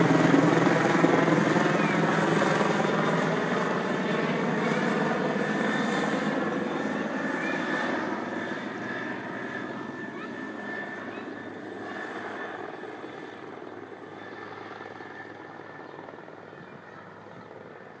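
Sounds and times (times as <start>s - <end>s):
helicopter turbine and rotor: 0.0s - 18.0s.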